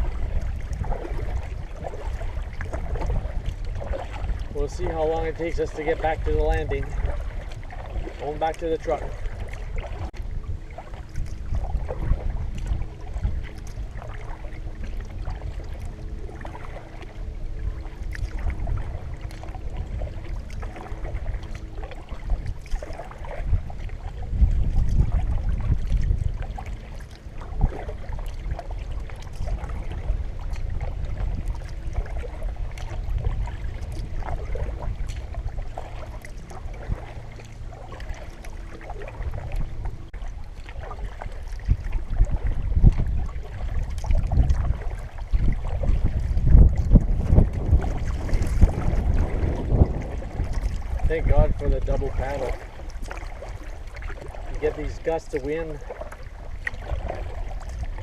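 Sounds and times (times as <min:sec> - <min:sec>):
paddle splashing water: 0:00.0 - 0:58.0
wind rumbling on microphone: 0:00.0 - 0:58.0.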